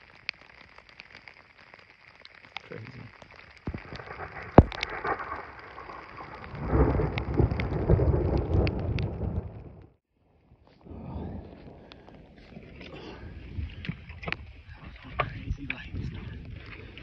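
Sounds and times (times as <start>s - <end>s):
rain on a jacket hood: 0.0s - 17.0s.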